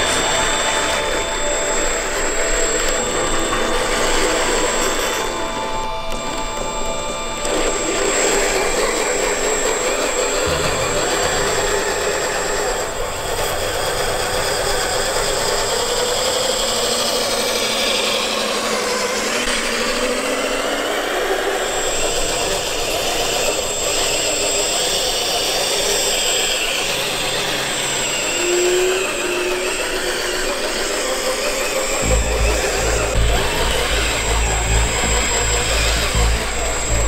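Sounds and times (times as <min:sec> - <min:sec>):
rc car electric motor whining: 0:00.0 - 0:37.0.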